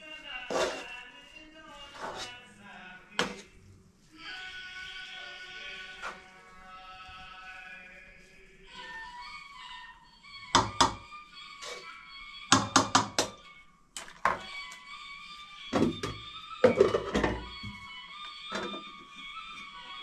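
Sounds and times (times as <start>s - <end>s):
background music with held tones: 0.0s - 20.0s.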